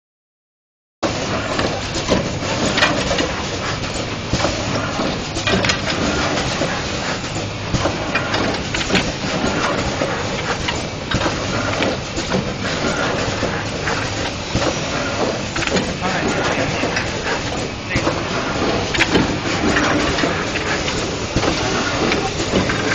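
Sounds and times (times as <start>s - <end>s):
machine clicks and knocks: 1.0s - 22.9s
printing machine running: 1.0s - 22.9s.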